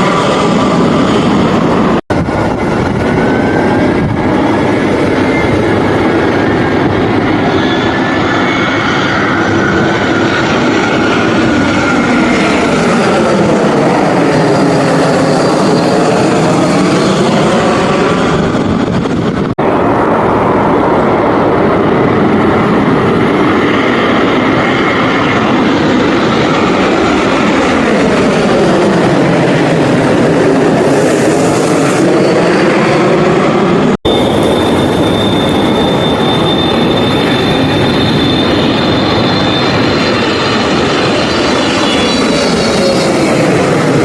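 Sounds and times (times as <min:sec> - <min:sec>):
aircraft engine noise: 0:00.0 - 0:44.0
steady high whine: 0:00.0 - 0:44.0.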